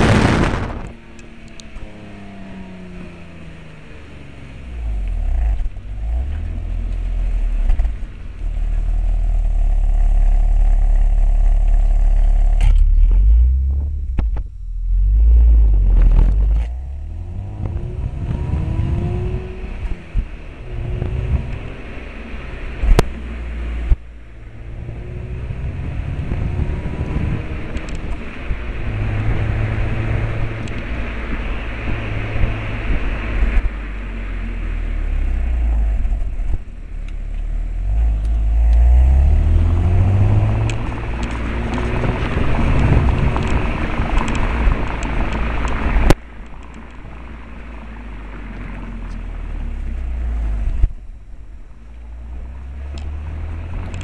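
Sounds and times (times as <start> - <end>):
car engine and exhaust: 0.0 - 54.0.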